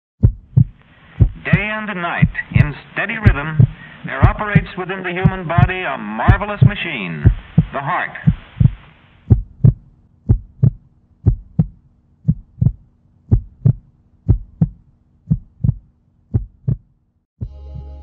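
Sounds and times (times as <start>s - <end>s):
faint steady hum: 0.2s - 17.0s
heartbeat thumps: 0.2s - 17.9s.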